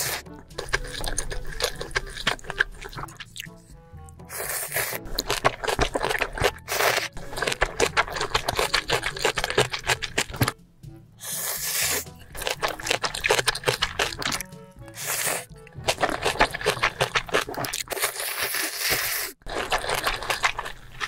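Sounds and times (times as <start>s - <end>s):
slurping: 0.0s - 10.6s, 11.2s - 21.0s
wet chewing and mouth clicks: 0.0s - 10.6s, 11.2s - 21.0s.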